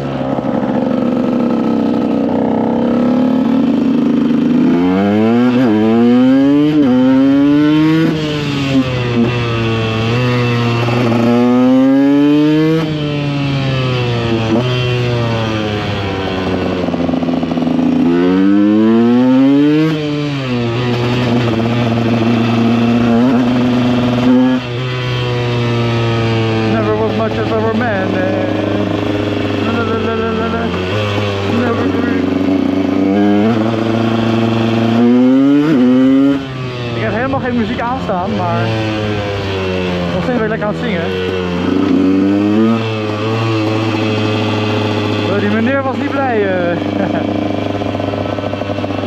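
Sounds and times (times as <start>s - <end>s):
two-stroke motorcycle engine accelerating: 0.0s - 49.0s.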